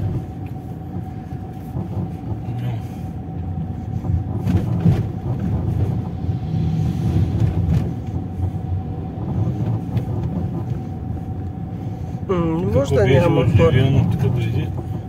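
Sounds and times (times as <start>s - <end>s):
car engine and road rumble: 0.0s - 15.0s
thin constant whine: 0.0s - 15.0s.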